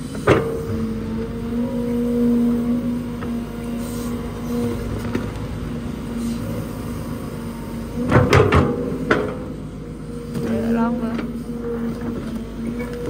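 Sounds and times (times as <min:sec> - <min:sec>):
excavator engine under load: 0:00.0 - 0:13.0
hydraulic pump whine: 0:00.0 - 0:13.0.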